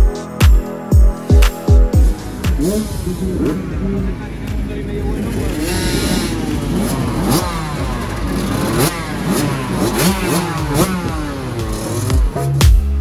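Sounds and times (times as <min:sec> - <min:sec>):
electronic music beat: 0:00.0 - 0:13.0
motocross bikes revving: 0:02.1 - 0:13.0.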